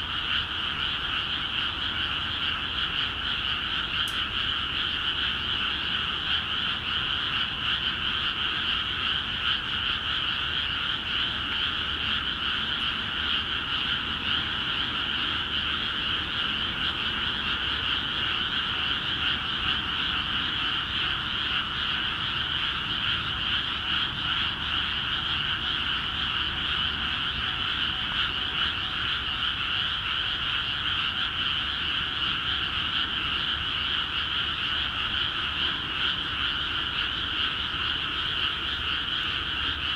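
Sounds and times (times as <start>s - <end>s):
frogs chorus: 0.0s - 39.9s.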